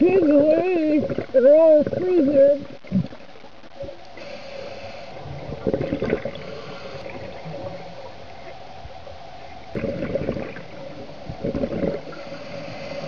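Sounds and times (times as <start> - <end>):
faint steady hum: 0.0 - 13.0
scuba exhaust bubbles gurgling: 0.0 - 13.0.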